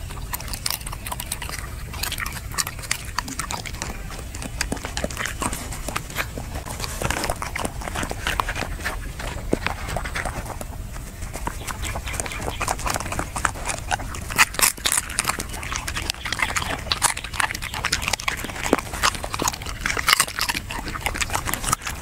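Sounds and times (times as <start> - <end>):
dog chewing and crunching: 0.0 - 22.0.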